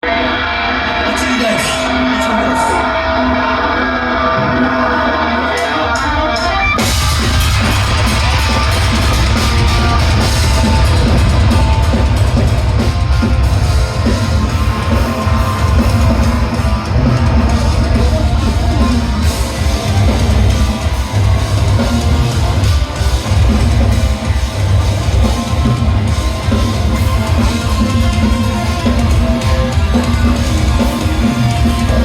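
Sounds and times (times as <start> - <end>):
electric guitar: 0.0 - 32.0
drum kit: 4.2 - 32.0.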